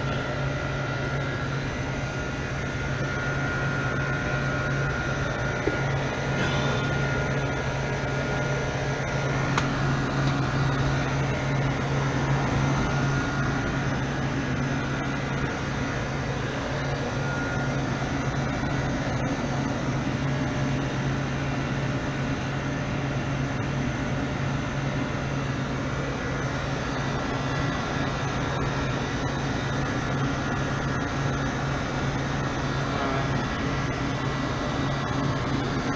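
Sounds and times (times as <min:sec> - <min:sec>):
condenser fans: 0:00.0 - 0:35.9
refrigeration unit humming: 0:00.0 - 0:35.9.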